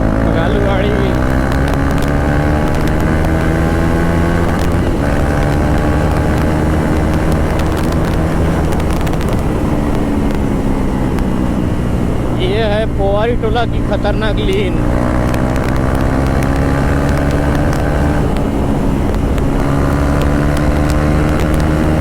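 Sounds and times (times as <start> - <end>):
motorcycle engine accelerating: 0.0 - 22.0
wind noise on microphone: 0.0 - 22.0.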